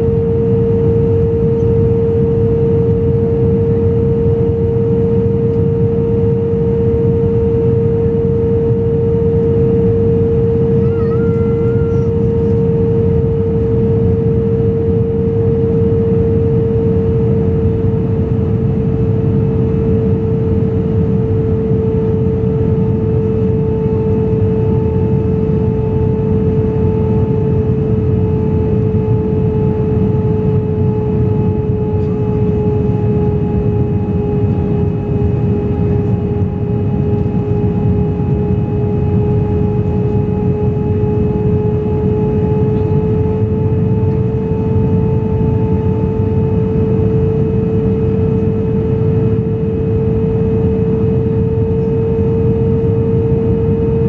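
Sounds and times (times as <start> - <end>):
airflow rushing in cabin: 0.0 - 54.0
jet engines droning: 0.0 - 54.0.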